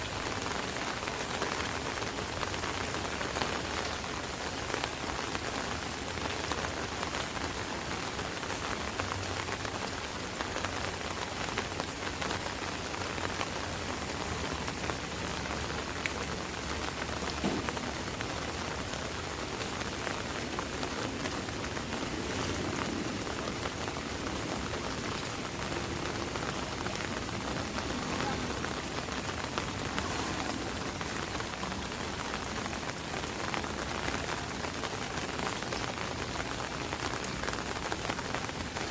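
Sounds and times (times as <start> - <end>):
rain on an umbrella: 0.0 - 38.9.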